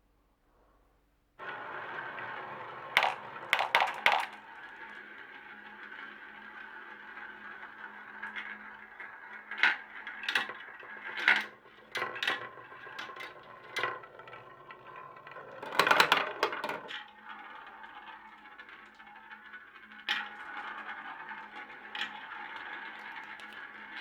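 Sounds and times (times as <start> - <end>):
marbles rolling rumble: 1.4 - 24.0
marbles clicking on track: 1.6 - 24.0.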